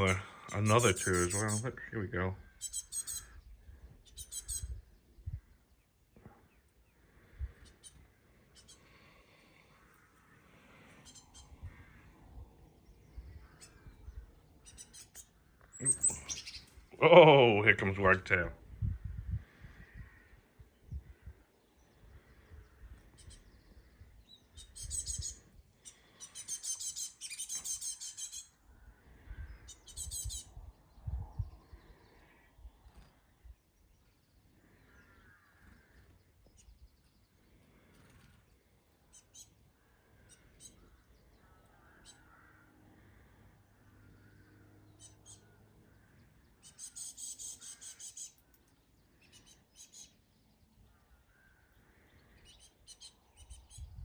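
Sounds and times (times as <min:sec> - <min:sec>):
fledgling birds begging calls: 0:00.0 - 0:33.4, 0:34.0 - 0:54.0.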